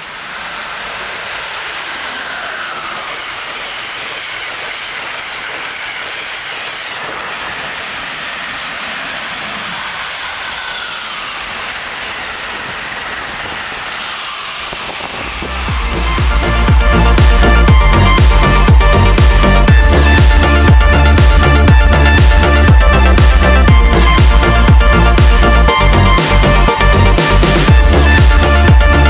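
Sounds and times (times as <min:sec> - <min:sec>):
high train whine: 0:00.0 - 0:29.0
train wheels rushing on rail: 0:00.0 - 0:29.0.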